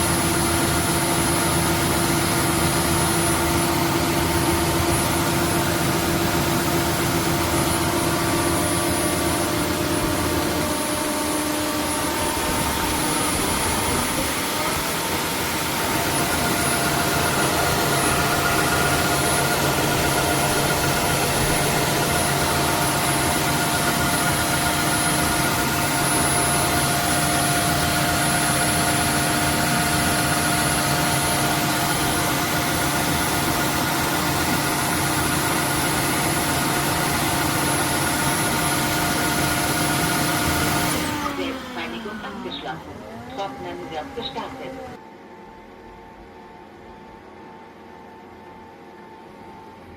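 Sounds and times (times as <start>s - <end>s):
vacuum motor whine: 0.0s - 49.9s.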